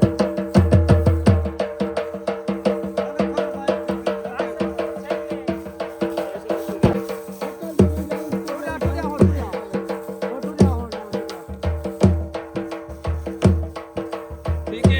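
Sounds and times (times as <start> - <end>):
rapid drum strokes: 0.0 - 14.9.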